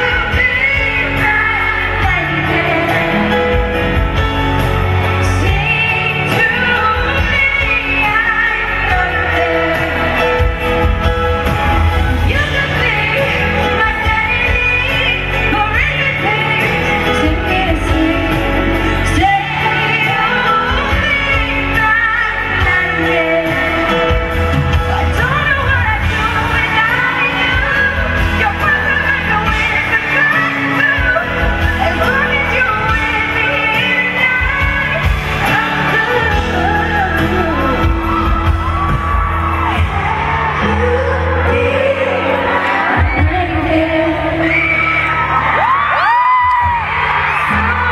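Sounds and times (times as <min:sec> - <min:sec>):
band accompaniment: 0:00.0 - 0:47.9
woman singing: 0:00.0 - 0:47.9.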